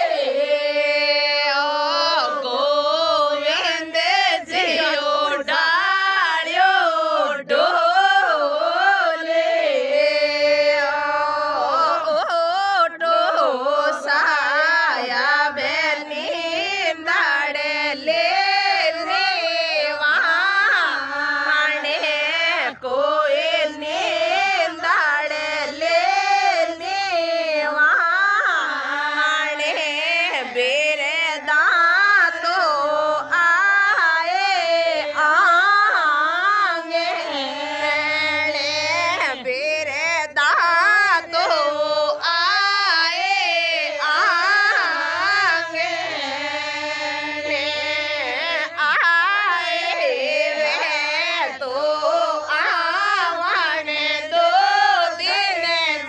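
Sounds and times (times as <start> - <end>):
women singing a folk song: 0.0 - 56.0.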